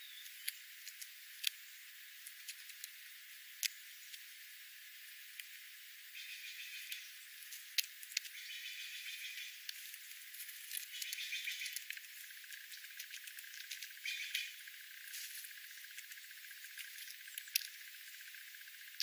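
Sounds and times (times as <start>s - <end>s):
small birds chirping: 0.0s - 4.5s, 5.3s - 19.0s.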